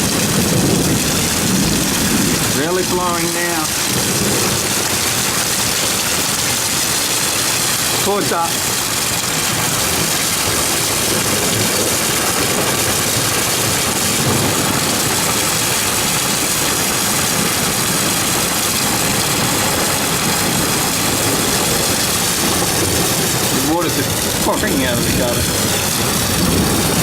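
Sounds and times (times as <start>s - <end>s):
heavy rain pouring: 0.0s - 27.0s
water spilling from gutters: 0.0s - 27.0s
wind: 0.0s - 27.0s.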